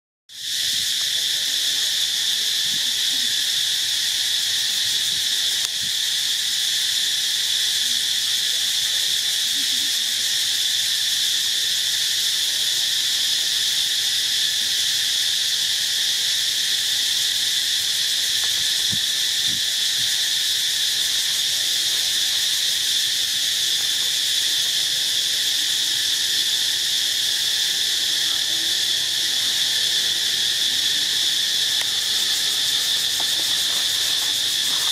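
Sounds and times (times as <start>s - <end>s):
insects droning: 0.3s - 34.9s.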